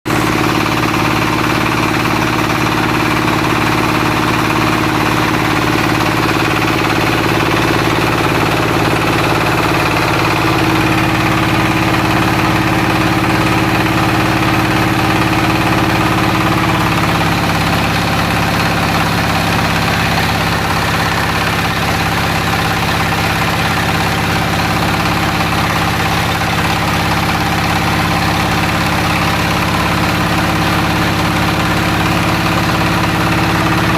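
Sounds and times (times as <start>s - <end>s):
extruder machine humming: 0.1s - 33.9s.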